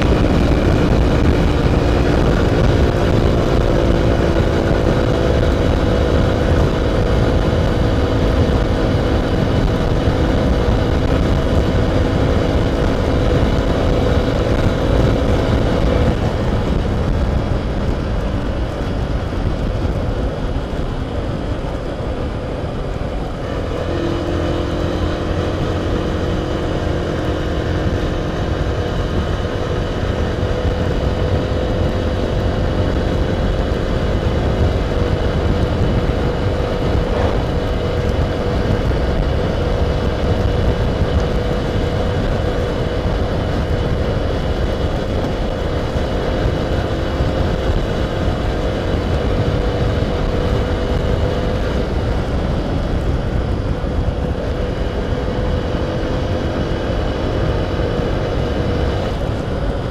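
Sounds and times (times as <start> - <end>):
heavy wind noise: 0.0 - 59.9
motorcycle engine running: 0.0 - 59.9.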